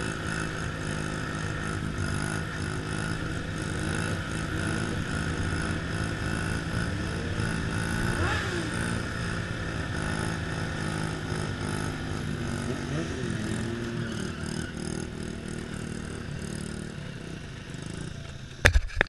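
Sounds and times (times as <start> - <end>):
mini-bike engine revving: 0.0 - 18.7.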